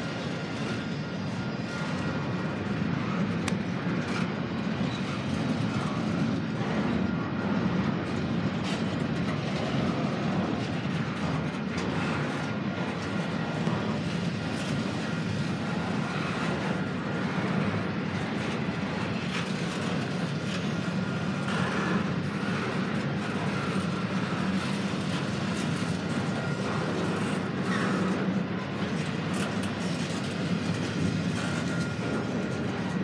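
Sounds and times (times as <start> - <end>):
freight train wheels rumbling: 0.0 - 33.0.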